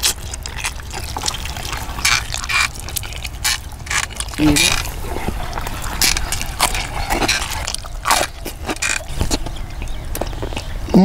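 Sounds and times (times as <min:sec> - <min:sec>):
man chewing: 0:00.0 - 0:10.8.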